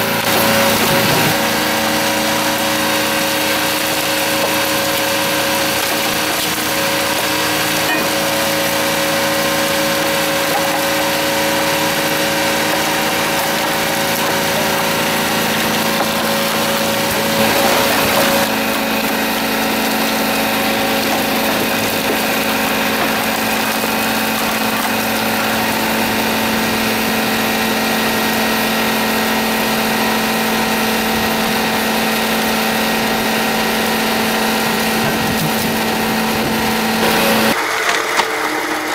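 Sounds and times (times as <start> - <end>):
log splitter engine droning: 0.0 - 38.9
second log splitter engine: 0.0 - 38.9.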